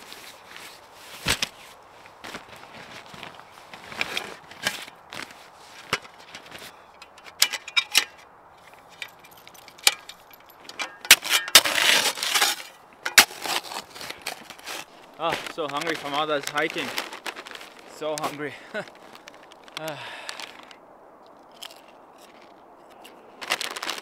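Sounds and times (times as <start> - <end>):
rustling: 0.0 - 24.0.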